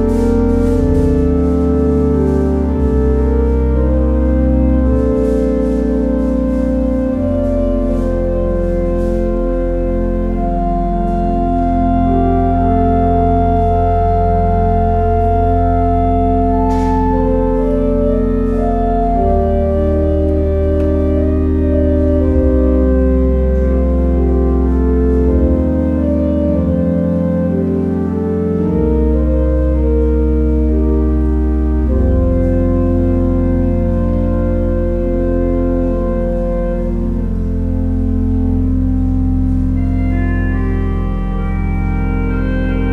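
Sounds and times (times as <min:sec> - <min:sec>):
church organ chords: 0:00.0 - 0:42.9.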